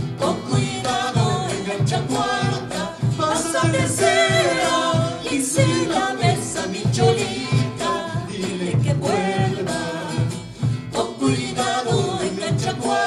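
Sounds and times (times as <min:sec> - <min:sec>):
drum beaten with stick: 0:00.0 - 0:13.0
strummed acoustic guitars: 0:00.0 - 0:13.0
voices singing together: 0:00.0 - 0:13.0.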